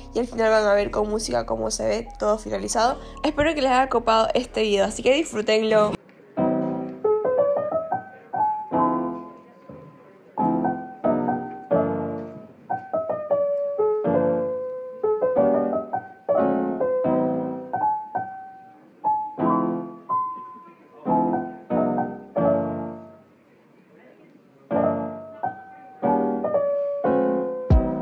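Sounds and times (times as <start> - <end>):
piano chords: 0.0 - 23.3, 24.7 - 28.0.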